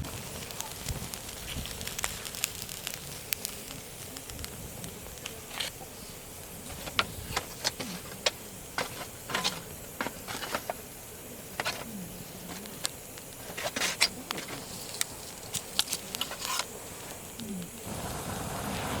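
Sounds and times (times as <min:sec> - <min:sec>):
insect buzzing: 0:00.0 - 0:18.9
campfire crackling: 0:00.0 - 0:19.0.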